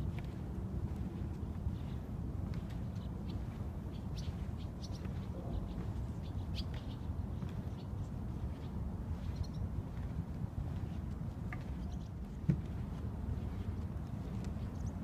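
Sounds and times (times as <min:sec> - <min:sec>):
steady low rumble: 0:00.0 - 0:15.0
birds chirping: 0:00.2 - 0:15.0.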